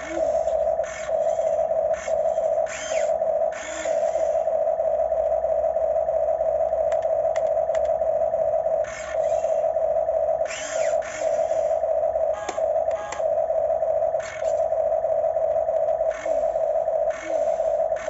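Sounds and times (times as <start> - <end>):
toy excavator motor whine: 0.0 - 5.8, 6.5 - 18.0.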